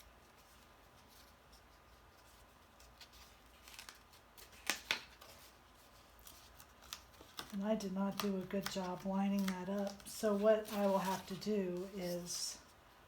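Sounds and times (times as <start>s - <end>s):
cardstock rustling: 0.3s - 12.7s.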